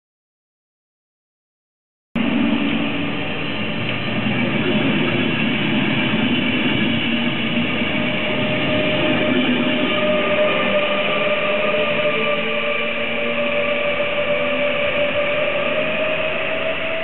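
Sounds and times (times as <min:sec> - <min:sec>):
locomotive whine: 0:02.2 - 0:17.0
train wheels rumbling on rails: 0:02.2 - 0:17.0.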